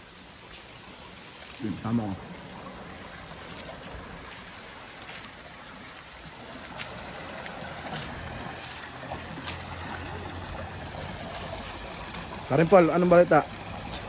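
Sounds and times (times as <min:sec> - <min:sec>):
stream rushing over cascade: 0:00.0 - 0:14.0
person wading splashing: 0:00.1 - 0:14.0.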